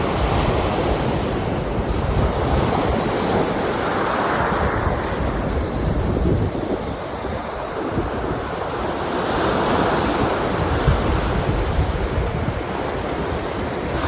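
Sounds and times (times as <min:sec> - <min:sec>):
waves washing over rocks: 0:00.0 - 0:14.0
wind on microphone: 0:00.0 - 0:14.0.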